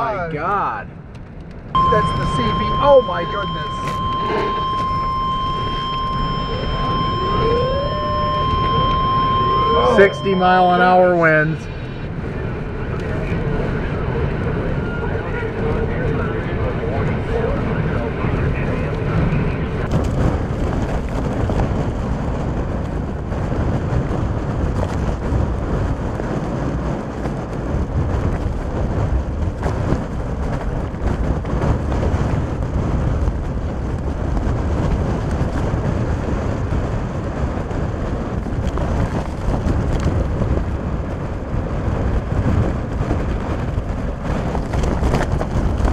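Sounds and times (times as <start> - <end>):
strong wind rushing on microphone: 0.0 - 45.9.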